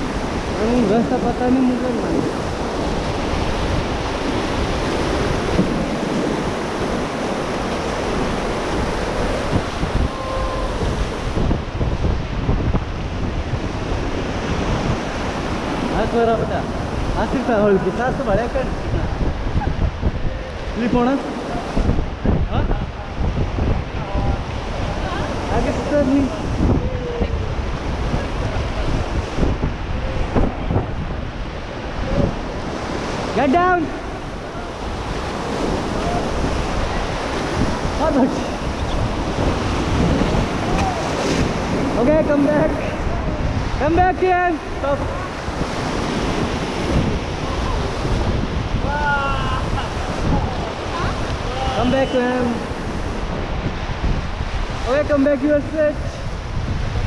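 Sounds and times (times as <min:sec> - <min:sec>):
river rapids rushing: 0:00.0 - 0:57.0
whitewater roaring: 0:00.0 - 0:57.0
wind buffeting microphone: 0:00.0 - 0:57.0.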